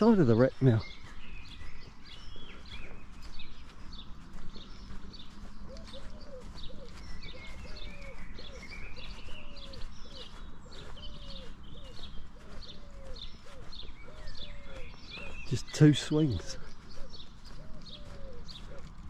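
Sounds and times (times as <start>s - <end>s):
birds singing and chirping: 0.0s - 19.0s.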